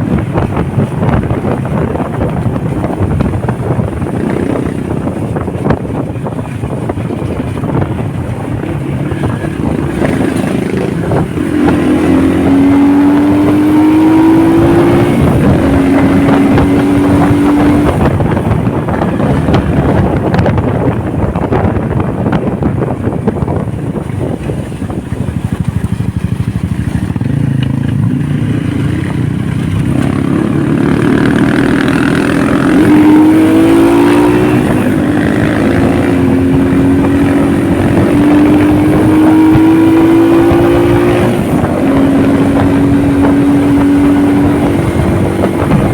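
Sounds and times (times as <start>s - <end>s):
motorcycle engine accelerating: 0.0s - 45.9s
wind rushing: 0.0s - 45.9s.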